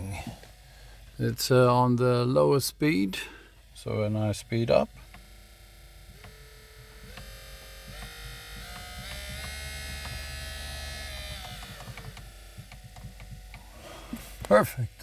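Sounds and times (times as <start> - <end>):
heater blower motor whining: 0.0 - 15.0.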